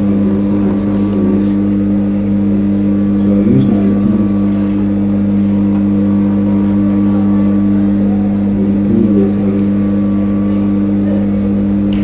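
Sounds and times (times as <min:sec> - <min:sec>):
loud electrical hum: 0:00.0 - 0:12.0.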